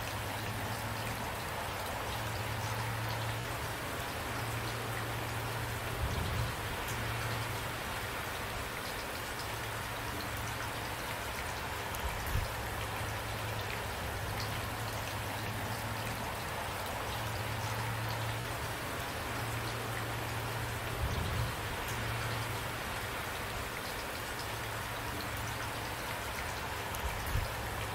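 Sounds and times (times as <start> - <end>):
steady rain: 0.0 - 27.9.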